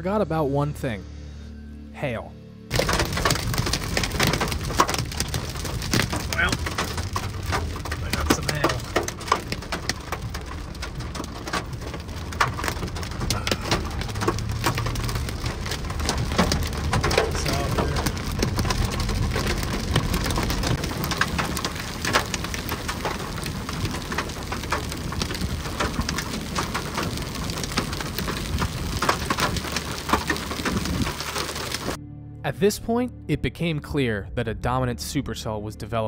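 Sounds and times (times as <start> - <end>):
steady low rumble: 2.5 - 36.0
hail and rain pelting car roof: 2.7 - 32.0.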